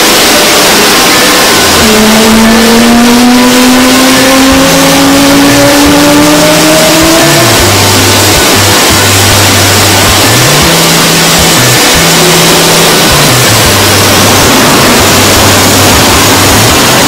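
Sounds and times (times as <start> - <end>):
jet engine spooling up: 0.0 - 17.0.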